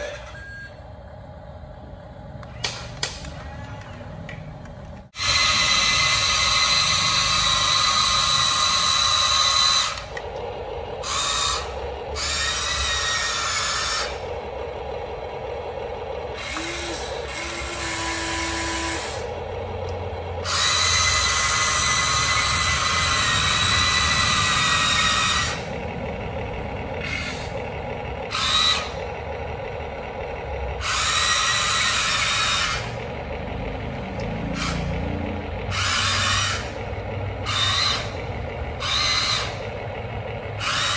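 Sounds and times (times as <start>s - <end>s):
electric motors whining: 0.0s - 40.9s.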